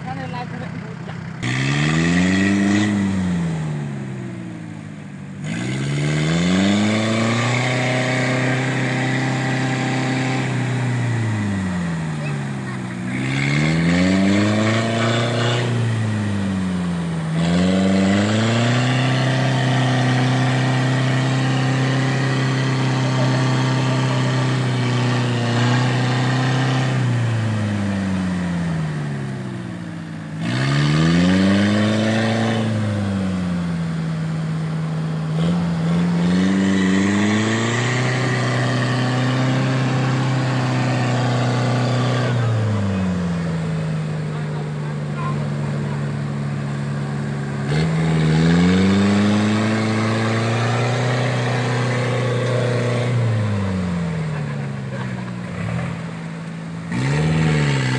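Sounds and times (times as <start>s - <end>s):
truck engine revving: 0.0s - 57.9s.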